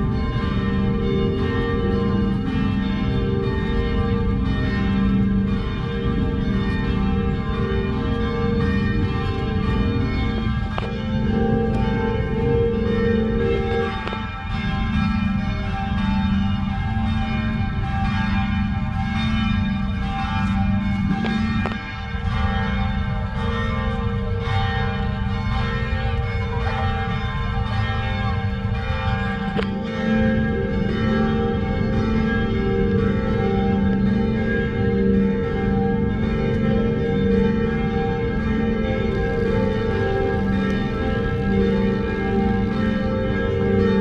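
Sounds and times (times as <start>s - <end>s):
church bells pealing: 0.0s - 44.0s.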